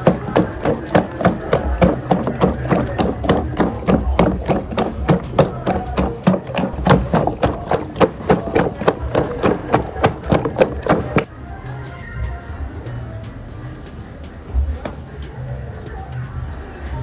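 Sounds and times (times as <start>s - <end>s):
music with fast percussive beat: 0.0s - 17.0s.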